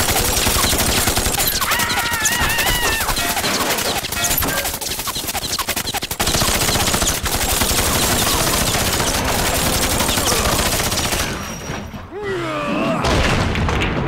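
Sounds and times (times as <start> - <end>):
cartoon machine gun fire: 0.0 - 11.4.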